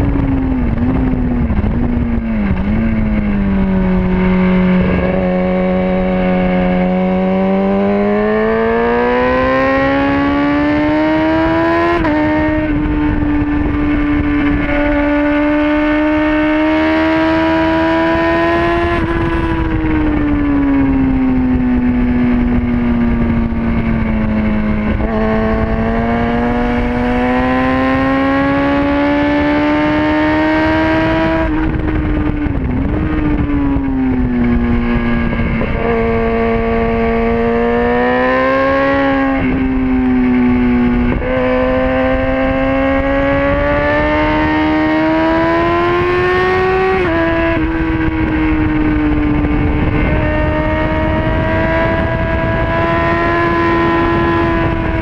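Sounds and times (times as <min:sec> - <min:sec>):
motorcycle engine accelerating: 0:00.0 - 0:55.0
rushing wind: 0:00.0 - 0:55.0.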